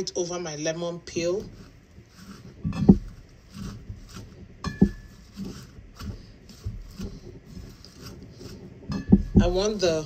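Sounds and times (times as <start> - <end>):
spatula rustling and scraping: 0.0 - 10.0.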